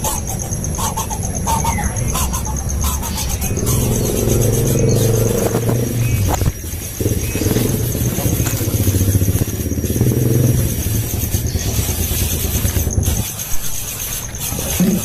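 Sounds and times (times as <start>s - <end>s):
small engine running: 3.0s - 15.0s.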